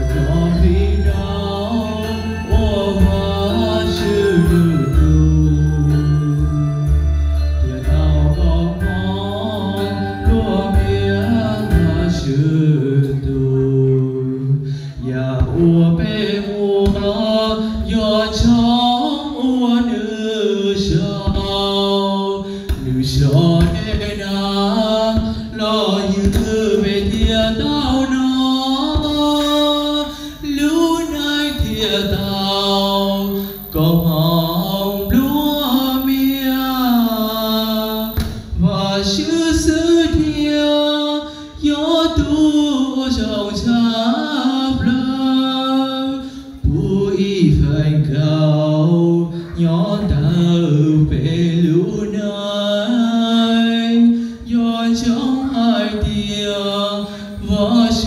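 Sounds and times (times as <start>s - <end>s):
man singing into microphone: 0.0s - 58.0s.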